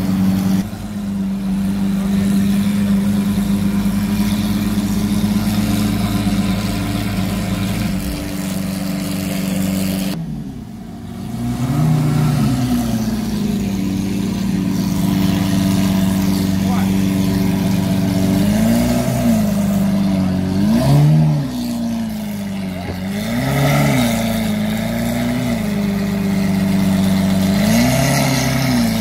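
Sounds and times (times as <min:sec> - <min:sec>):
car engine idling: 0:00.0 - 0:29.0
engine revving: 0:00.0 - 0:29.0.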